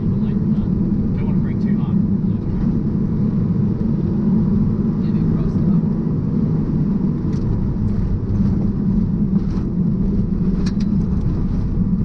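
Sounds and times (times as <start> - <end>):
car engine running under load: 0.0 - 12.0
road and tyre noise: 0.0 - 12.0.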